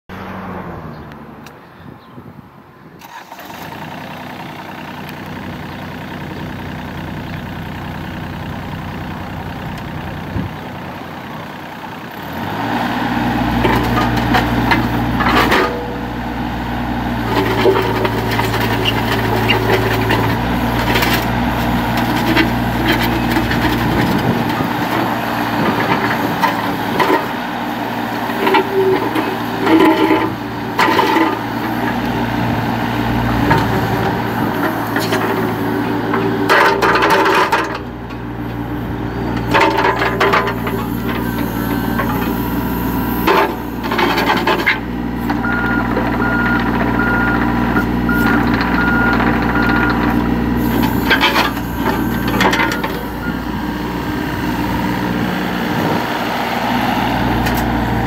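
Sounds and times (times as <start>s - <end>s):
excavator diesel engine running: 3.0s - 58.0s.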